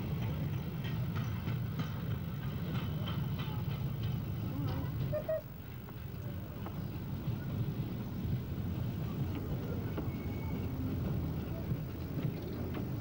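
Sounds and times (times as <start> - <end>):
miniature tram rumbling: 0.0 - 13.0.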